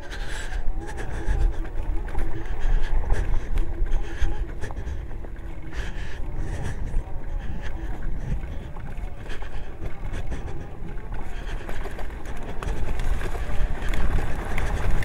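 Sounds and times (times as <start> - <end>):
bike knocking and rattling: 0.0 - 15.0.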